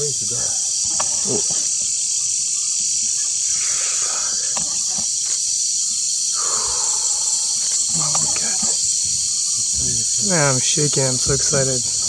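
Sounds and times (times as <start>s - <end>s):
night insects shrill hum: 0.0s - 12.0s.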